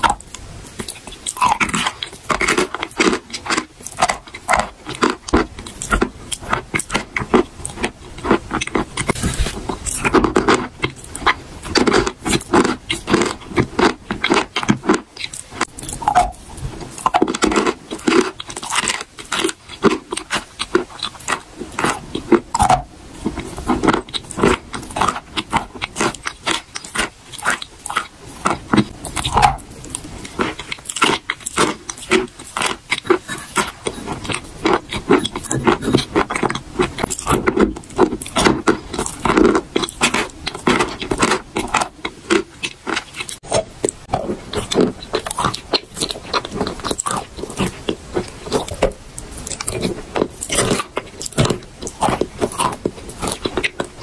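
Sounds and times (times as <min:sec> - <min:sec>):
chalk crunching while chewed: 0:00.0 - 0:54.0
wet pasty mouth sounds: 0:00.0 - 0:54.0.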